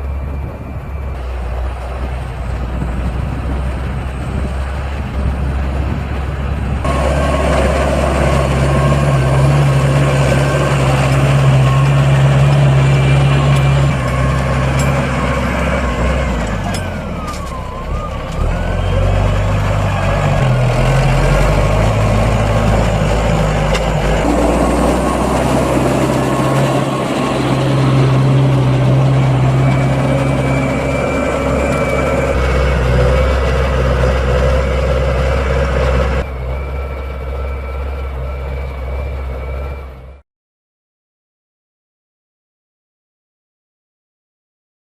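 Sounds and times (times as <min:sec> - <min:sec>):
tractor engine under load: 0:00.0 - 0:40.2.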